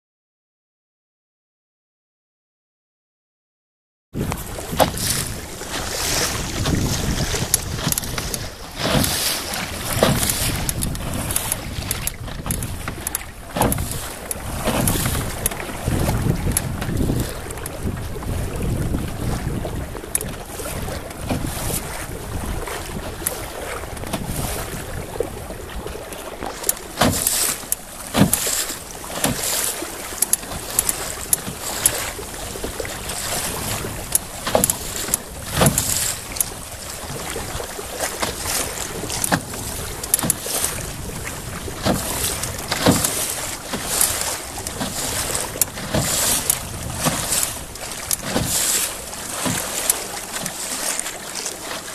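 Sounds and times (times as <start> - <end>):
rush of water: 4.2 - 51.9
water slapping canoe hull: 4.2 - 51.9
wind on microphone: 4.2 - 51.9.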